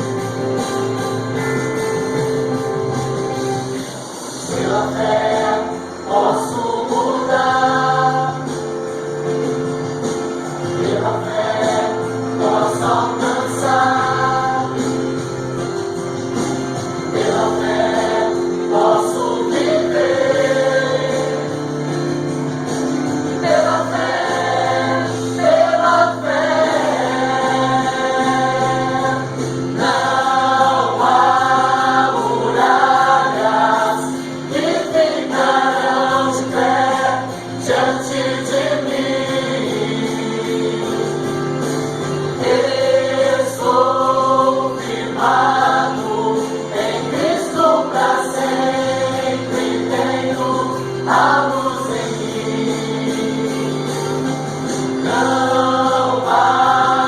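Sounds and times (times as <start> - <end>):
choir singing gospel song: 0.0 - 57.0.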